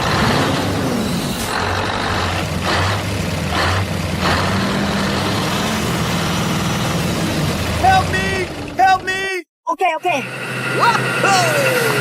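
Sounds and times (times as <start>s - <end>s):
truck engine humming: 0.0s - 9.3s, 10.2s - 12.0s.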